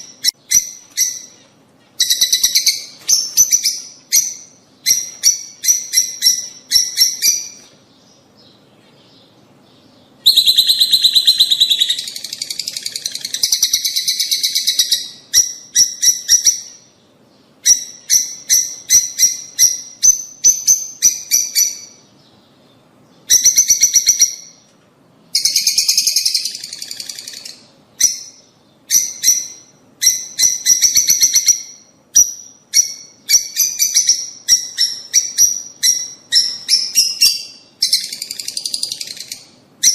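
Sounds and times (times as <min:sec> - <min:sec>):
lovebirds chattering: 0:00.0 - 0:24.7, 0:25.3 - 0:39.9.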